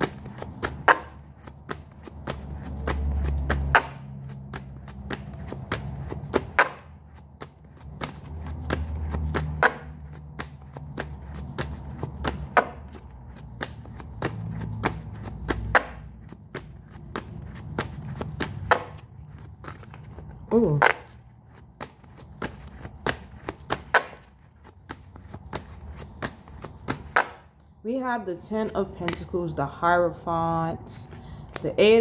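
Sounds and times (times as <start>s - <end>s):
cards being shuffled: 0.0s - 20.6s, 21.4s - 27.3s.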